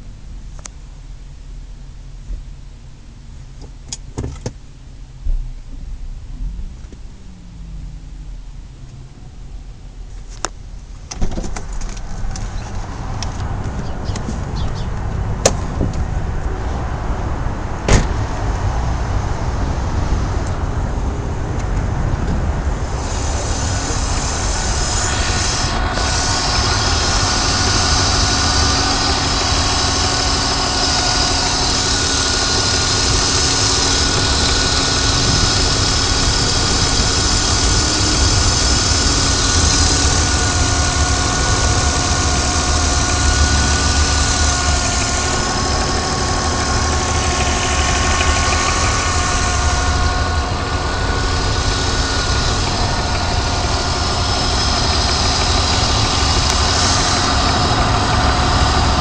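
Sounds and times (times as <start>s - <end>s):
car engine high whine: 0.0s - 59.0s.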